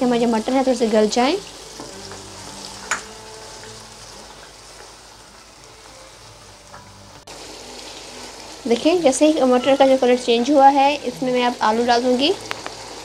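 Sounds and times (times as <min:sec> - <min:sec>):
meat and peas sizzling in a wok: 0:00.0 - 0:13.0.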